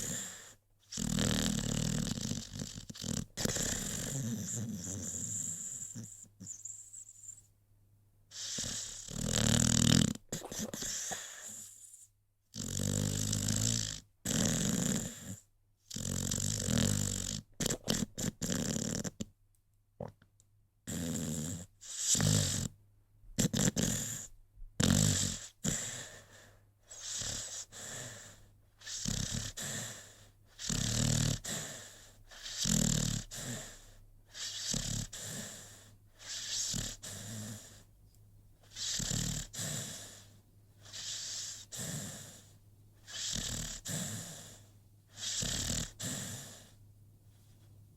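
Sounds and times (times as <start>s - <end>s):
dog snoring: 0.0s - 7.4s, 8.3s - 19.3s, 20.8s - 37.9s, 38.6s - 46.8s.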